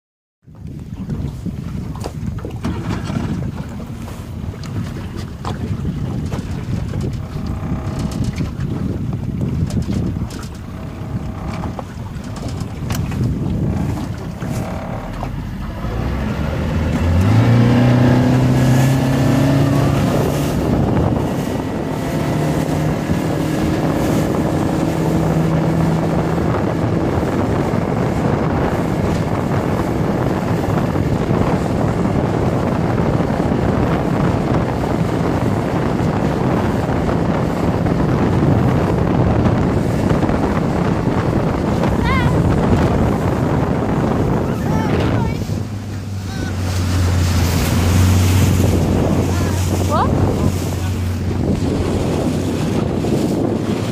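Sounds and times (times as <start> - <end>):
outboard motor revving: 0.4 - 53.9
wind and water rushing: 0.4 - 53.9.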